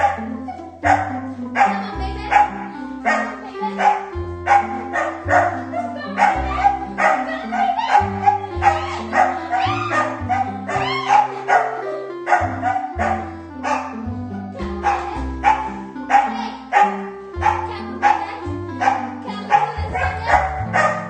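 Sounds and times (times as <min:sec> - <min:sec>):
background music with bass line: 0:00.0 - 0:21.0.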